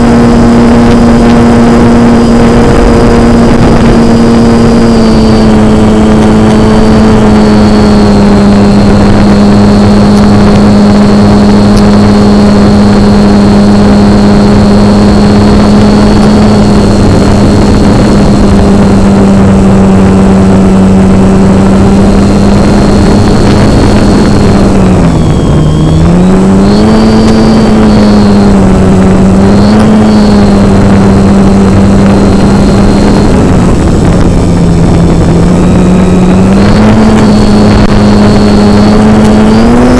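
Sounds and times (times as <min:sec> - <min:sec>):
model airplane motor and propeller: 0:00.0 - 0:39.9
rushing noise: 0:00.0 - 0:39.9.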